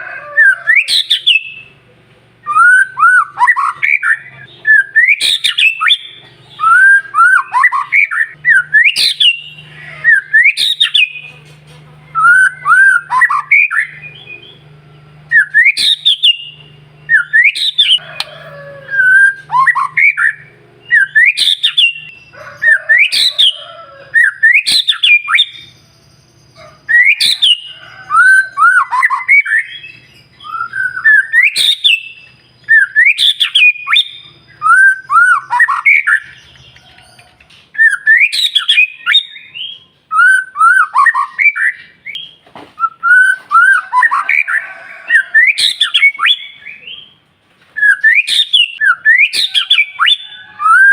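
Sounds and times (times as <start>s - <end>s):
bird singing whistled phrases: 0.4s - 1.7s, 2.4s - 11.2s, 12.1s - 14.6s, 15.3s - 23.6s, 24.2s - 36.8s, 37.8s - 47.2s, 47.8s - 50.9s.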